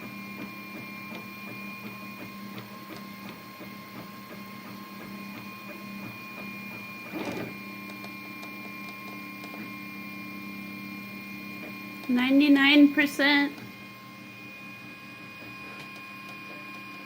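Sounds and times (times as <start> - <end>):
three d printer motors whining: 0.0 - 17.0.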